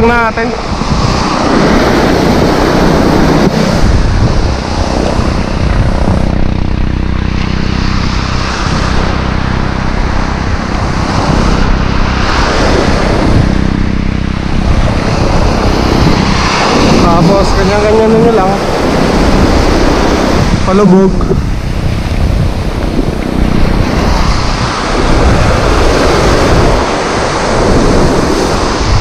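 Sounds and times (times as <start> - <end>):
surf washing on sand: 0.0 - 29.0
wind rumbling on microphone: 0.0 - 29.0.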